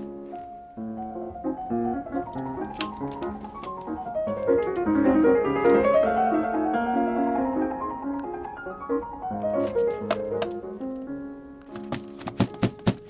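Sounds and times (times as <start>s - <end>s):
piano playing flowing run: 0.0s - 13.0s.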